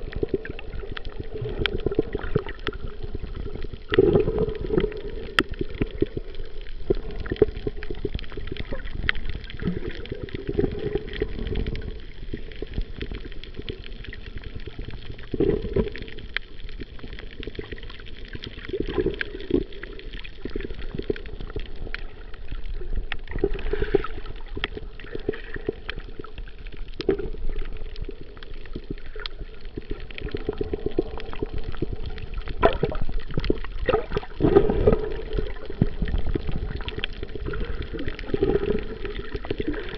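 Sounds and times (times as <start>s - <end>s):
muffled underwater rushing: 0.0s - 39.9s
small clicks and crackles: 0.0s - 39.9s.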